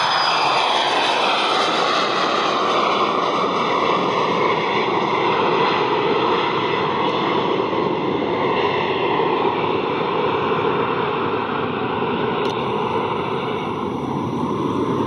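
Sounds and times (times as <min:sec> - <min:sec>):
jet climbing after takeoff: 0:00.0 - 0:15.0.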